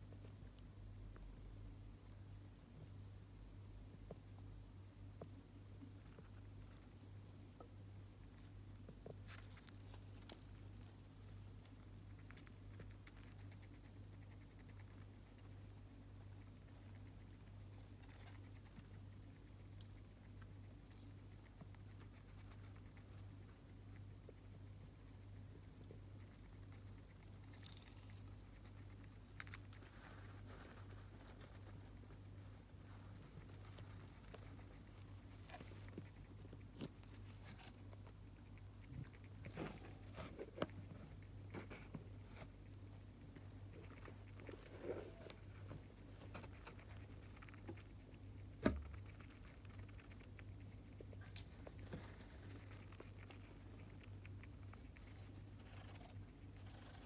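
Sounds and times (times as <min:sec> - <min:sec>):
steady low hum: 0:00.0 - 0:57.0
hamster nibbling clicks: 0:03.9 - 0:57.0.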